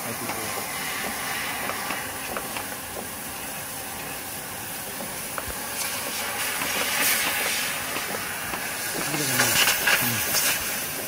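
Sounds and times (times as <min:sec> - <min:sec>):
hiss of gas jetting from nozzle: 0:00.0 - 0:11.0.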